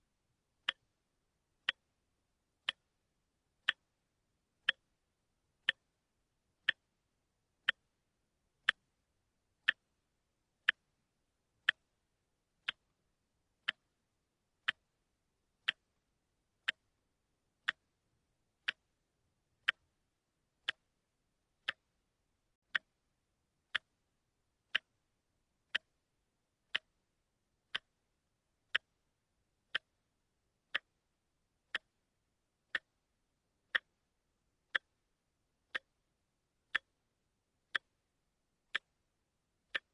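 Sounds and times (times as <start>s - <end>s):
watch ticking: 0.6s - 1.0s, 1.6s - 21.0s, 21.6s - 22.0s, 22.6s - 23.1s, 23.7s - 39.9s.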